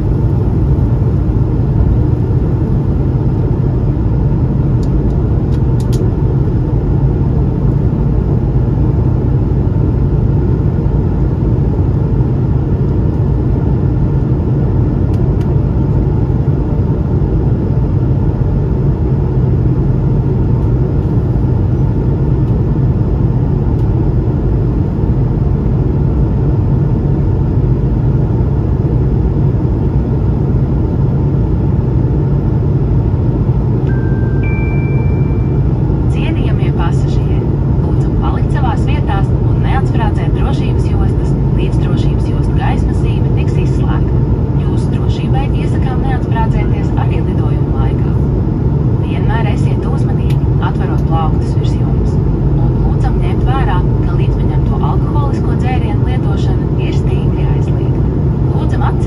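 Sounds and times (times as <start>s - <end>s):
aircraft cabin engine hum: 0.0s - 59.0s.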